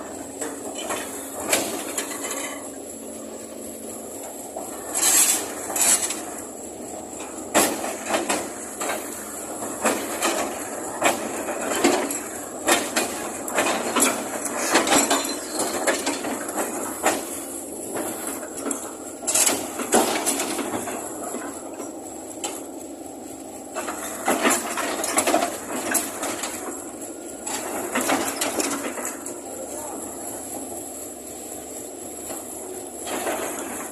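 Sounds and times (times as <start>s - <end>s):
excavator clanking and knocking: 0.0s - 33.9s
machine running hum: 0.0s - 33.9s.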